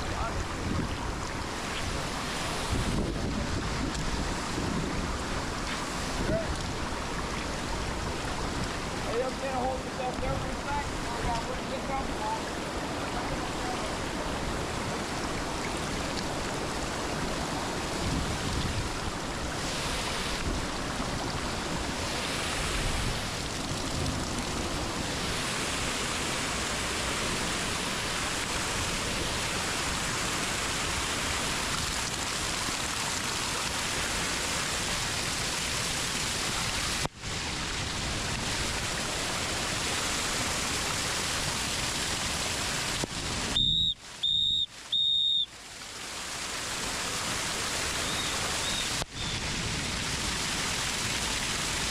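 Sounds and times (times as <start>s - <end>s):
creek water rushing: 0.0s - 51.9s
waterfall: 0.0s - 51.9s.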